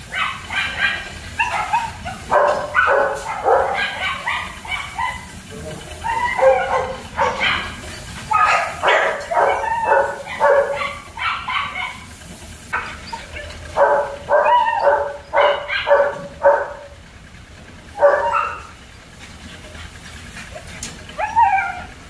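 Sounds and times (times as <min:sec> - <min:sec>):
puppies barking and yipping: 0:00.0 - 0:22.0.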